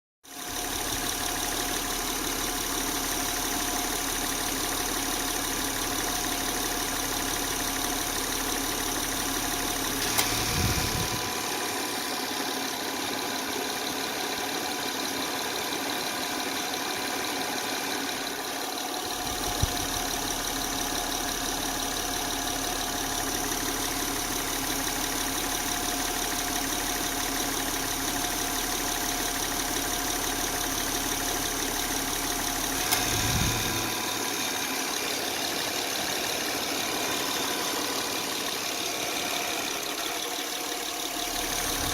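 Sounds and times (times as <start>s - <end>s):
engine idling: 0.3s - 41.9s.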